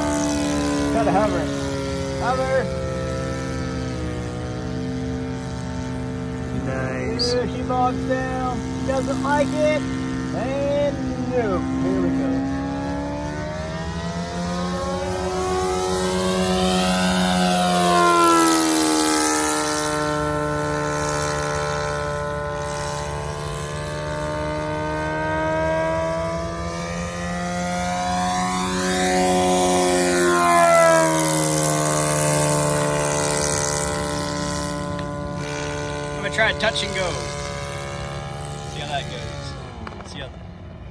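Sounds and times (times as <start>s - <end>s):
model airplane engine flying past: 0.0s - 40.9s
propeller buzzing: 0.0s - 40.9s.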